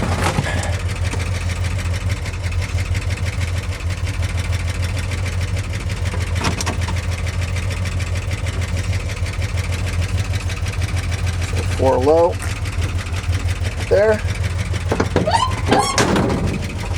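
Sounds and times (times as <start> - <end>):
truck engine running: 0.0 - 16.9.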